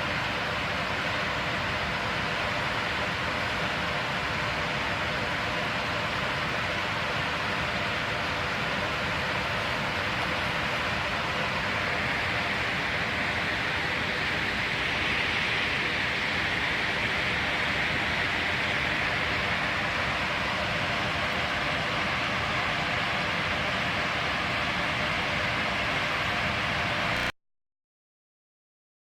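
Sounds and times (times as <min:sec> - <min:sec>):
waterfall rushing: 0:00.0 - 0:27.3.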